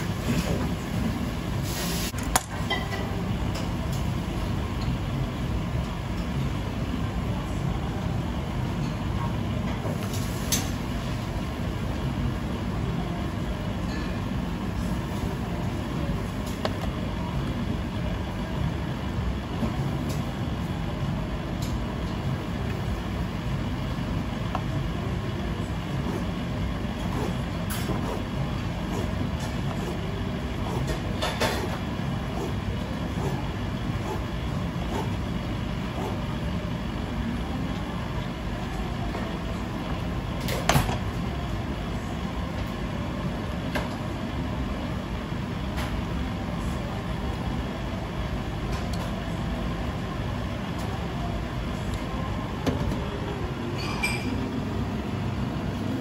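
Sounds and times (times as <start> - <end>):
low machinery rumble: 0.0 - 56.0.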